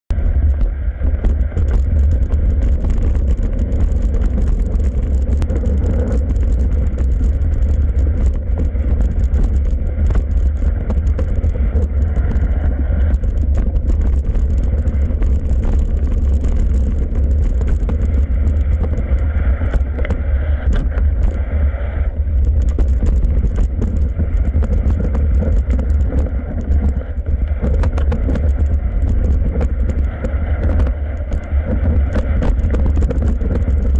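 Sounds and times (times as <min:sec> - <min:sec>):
bike clicks and rattles: 0:00.1 - 0:33.9
wind buffeting microphone: 0:00.1 - 0:33.9.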